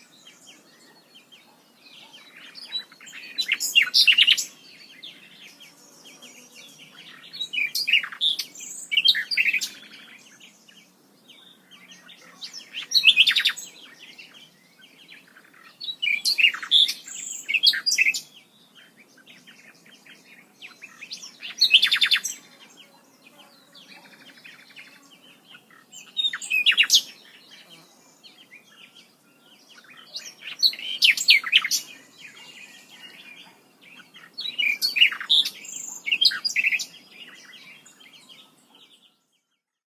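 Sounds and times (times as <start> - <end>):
birds chirping and singing: 0.0 - 39.8
faint outdoor background: 0.0 - 39.9.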